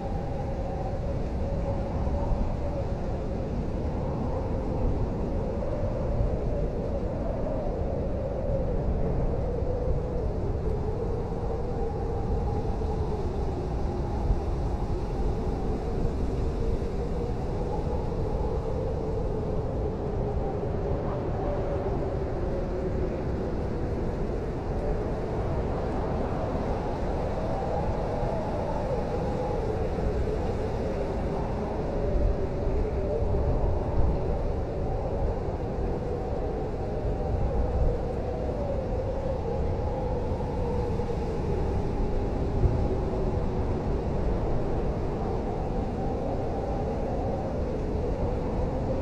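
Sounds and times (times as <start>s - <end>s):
blizzard wind howling: 0.0s - 49.0s.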